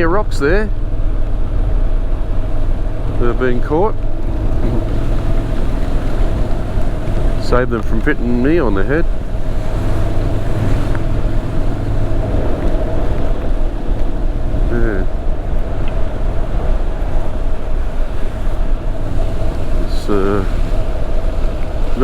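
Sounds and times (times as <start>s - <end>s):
motorcycle engine running: 0.0s - 22.0s
wind noise: 0.0s - 22.0s.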